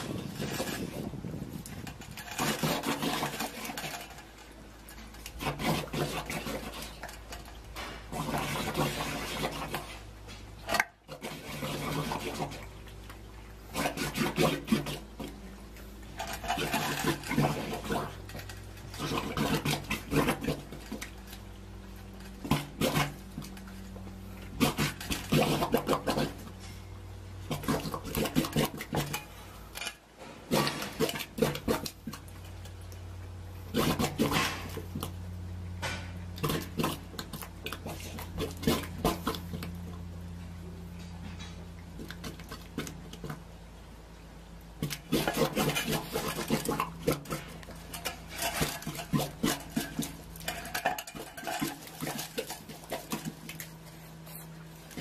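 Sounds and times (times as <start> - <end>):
low machine hum: 0.0 - 55.0
water gushing and sloshing: 0.0 - 55.0.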